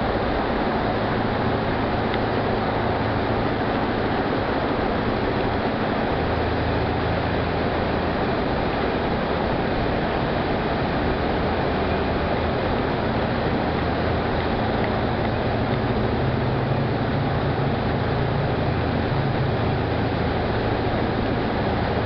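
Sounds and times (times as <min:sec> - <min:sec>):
tunnel traffic roar: 0:00.0 - 0:22.0
car engine running: 0:00.2 - 0:22.0.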